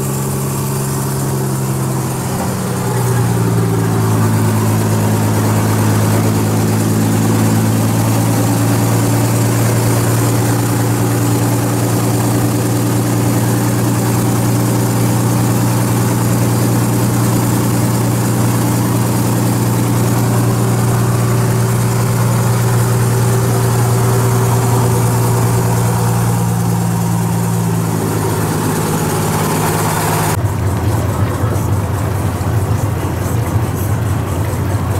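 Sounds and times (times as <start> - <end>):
water rushing past hull: 0.0 - 31.1
boat engine droning: 0.0 - 34.9.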